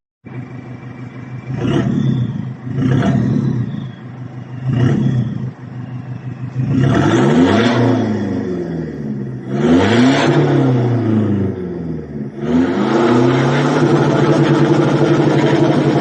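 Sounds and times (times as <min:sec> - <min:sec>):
diesel engine revving: 0:00.2 - 0:16.0.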